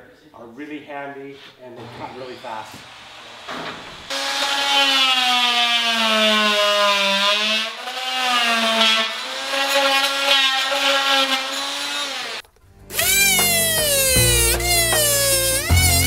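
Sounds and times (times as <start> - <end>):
multi-tool buzzing cutting wood: 3.1 - 16.0.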